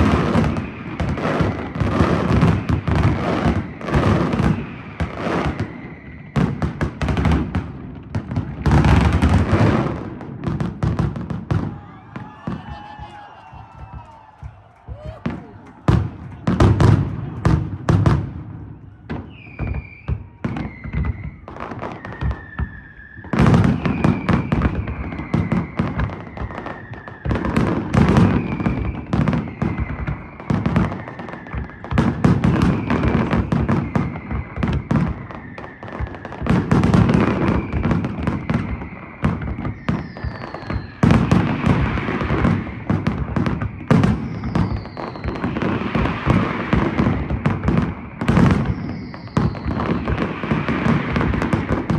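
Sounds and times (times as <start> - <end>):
fireworks bursts and bangs: 0.0 - 51.9
fireworks whistling: 0.0 - 51.9.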